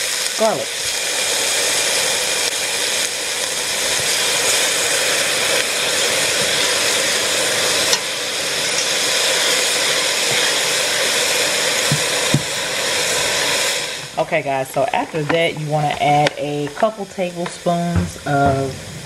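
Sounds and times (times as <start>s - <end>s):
onion and garlic sizzling in oil: 0.0s - 19.0s.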